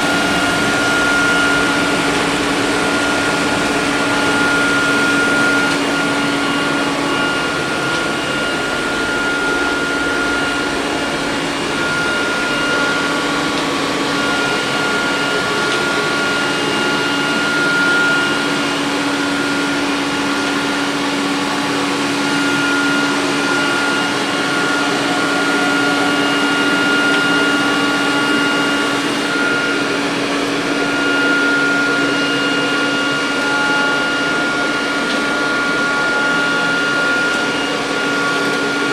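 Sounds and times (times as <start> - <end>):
robot vacuum cleaner running: 0.0 - 38.9.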